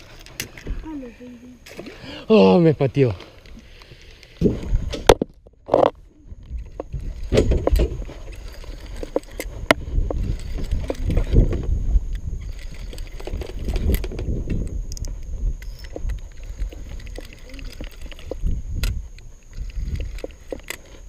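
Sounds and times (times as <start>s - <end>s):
faint high whine: 0.0s - 21.0s
camera handling rumble: 3.4s - 21.0s.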